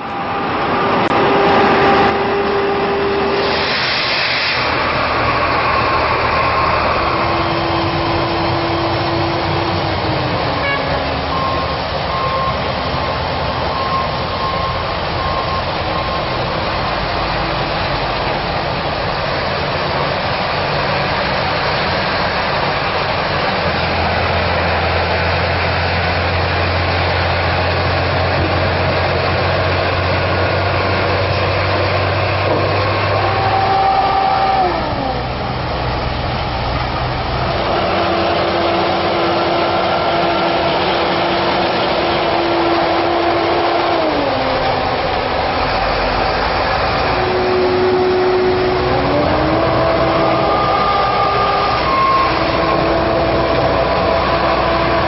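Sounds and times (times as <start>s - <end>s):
deep engine drone: 0.0s - 55.0s
heavy diesel truck engines running: 0.0s - 55.0s.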